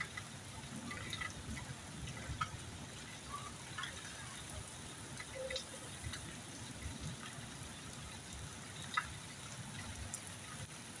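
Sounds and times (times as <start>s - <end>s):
rain splashing on wet ground: 0.0s - 11.0s.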